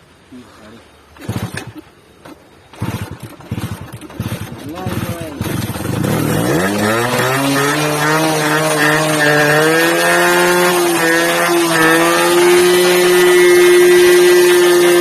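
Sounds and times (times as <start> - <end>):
motorcycle engine starting: 1.1 - 15.0.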